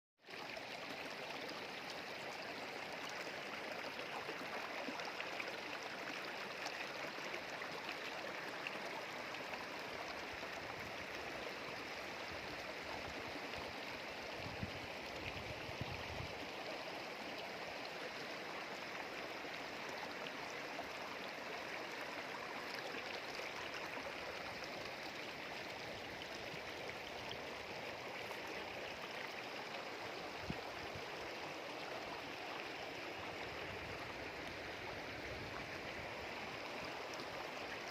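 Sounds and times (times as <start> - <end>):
stream gurgling: 0.2 - 37.9.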